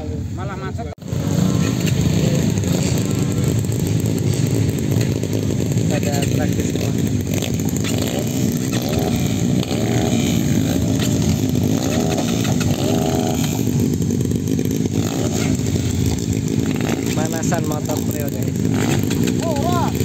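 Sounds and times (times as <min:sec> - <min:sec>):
motorbike engines running: 0:00.0 - 0:20.0.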